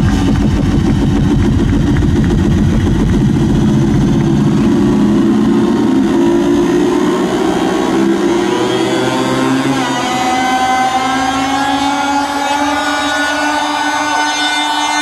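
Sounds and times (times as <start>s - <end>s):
electronic dance music: 0.0s - 15.0s.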